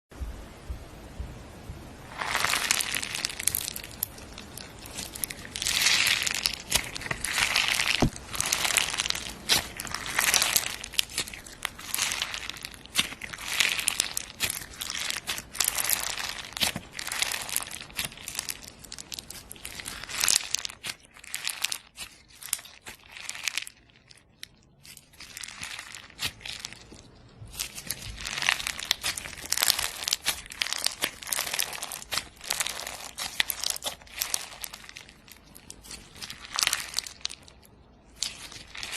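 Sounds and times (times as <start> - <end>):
slime crackling and popping: 2.1 - 38.9.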